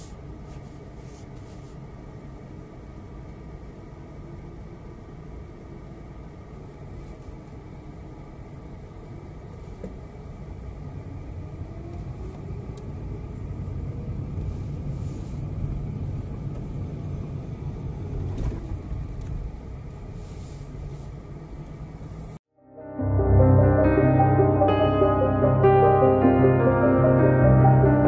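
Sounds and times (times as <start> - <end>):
car engine rumble: 0.0 - 22.5
road noise: 0.0 - 22.5.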